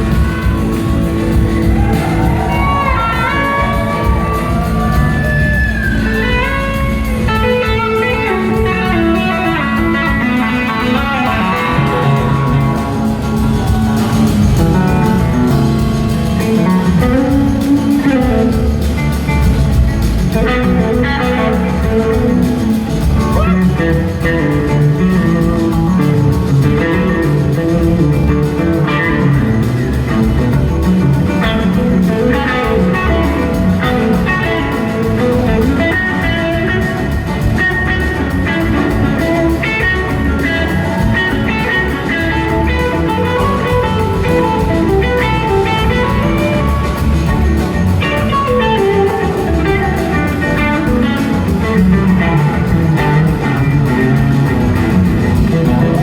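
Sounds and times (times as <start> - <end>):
bass guitar: 0.0 - 56.0
drums: 0.0 - 56.0
electric guitar melody: 0.0 - 56.0.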